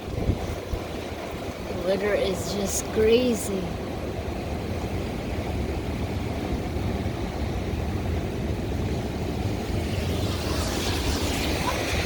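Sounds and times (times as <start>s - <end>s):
strong gusting wind: 0.0s - 12.0s.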